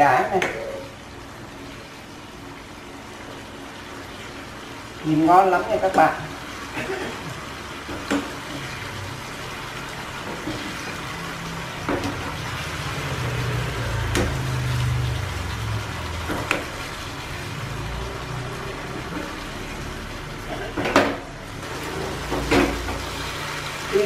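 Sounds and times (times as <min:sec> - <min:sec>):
fish sizzling in a pan: 0:00.7 - 0:20.9, 0:21.6 - 0:24.0.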